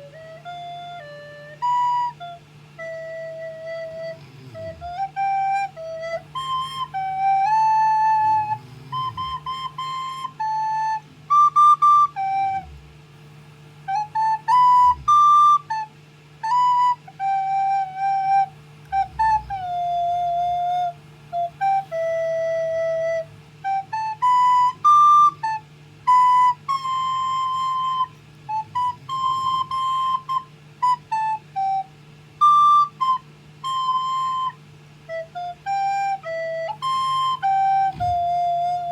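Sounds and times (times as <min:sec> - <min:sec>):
recorder melody: 0:00.0 - 0:12.9, 0:13.8 - 0:38.9.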